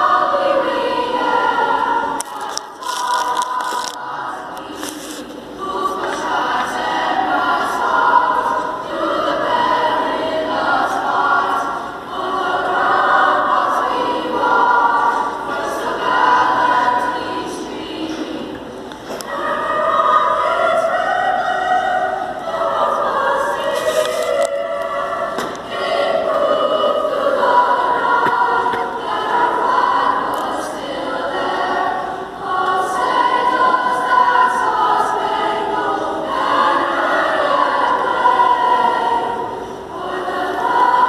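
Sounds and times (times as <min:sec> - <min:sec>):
choir singing an anthem: 0:00.0 - 0:41.0.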